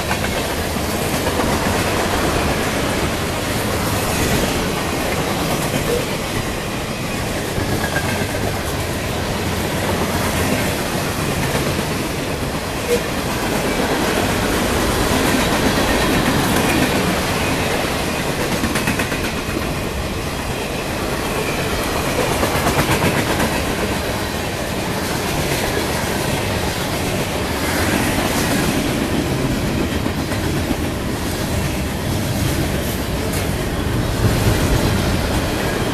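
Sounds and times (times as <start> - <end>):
freight train rumbling past: 0.0 - 35.9
steel wheels clattering on rails: 0.0 - 35.9.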